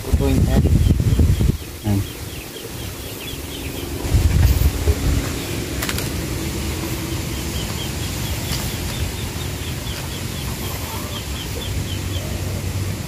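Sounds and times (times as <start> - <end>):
wind rumbling on microphone: 0.0 - 13.0
bird chirping rapidly: 0.2 - 5.8, 6.9 - 12.5.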